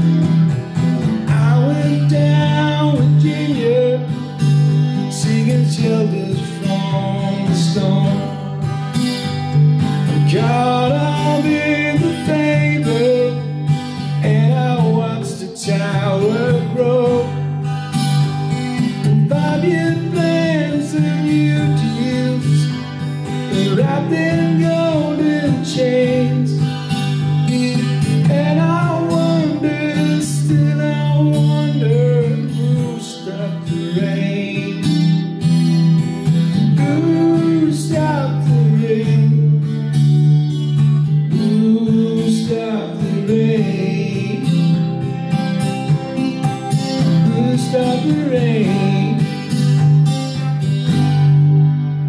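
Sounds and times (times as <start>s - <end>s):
acoustic guitar strumming: 0.0s - 52.0s
person singing: 1.0s - 8.6s, 10.0s - 17.6s, 18.9s - 35.2s, 36.3s - 40.2s, 40.8s - 45.2s, 45.8s - 50.6s.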